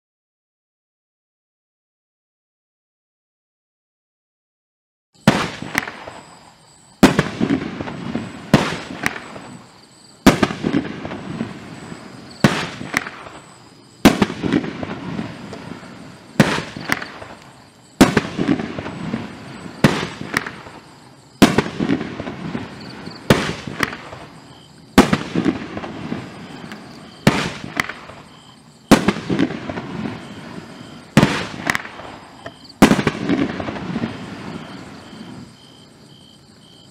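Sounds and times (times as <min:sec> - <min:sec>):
fireworks bangs: 0:05.2 - 0:35.8.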